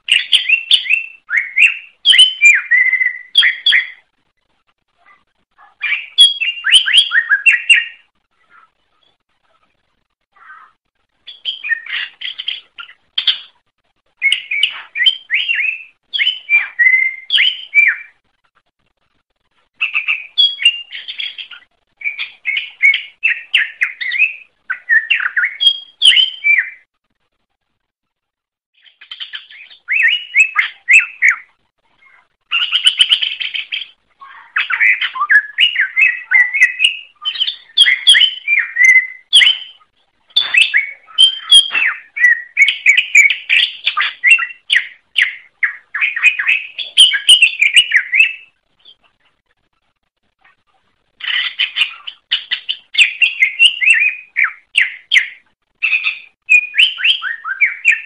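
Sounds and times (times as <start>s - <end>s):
bird chirping and whistling: 0.1s - 4.0s, 5.8s - 8.6s, 11.3s - 13.5s, 14.2s - 18.2s, 19.8s - 26.8s, 28.8s - 39.8s, 40.4s - 49.0s, 51.2s - 58.0s.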